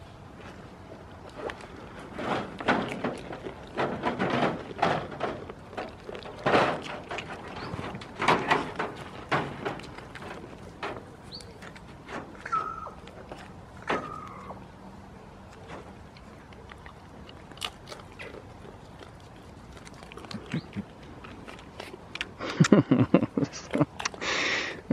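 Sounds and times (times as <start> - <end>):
close rustling and crunching: 0.0 - 24.9.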